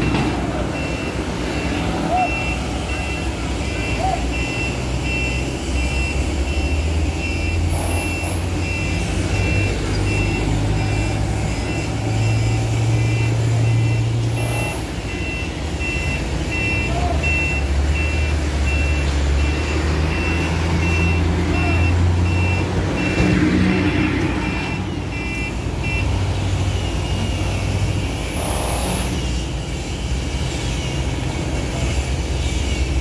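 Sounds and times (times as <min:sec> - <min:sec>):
diesel truck engine drone: 0:00.0 - 0:33.0
reversing alarm beeps: 0:00.0 - 0:33.0.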